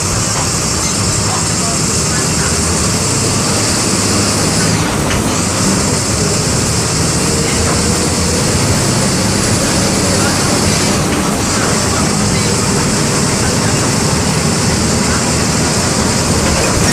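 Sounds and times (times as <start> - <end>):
bus diesel engine running: 0.0 - 16.9
loud high hiss: 0.0 - 16.9.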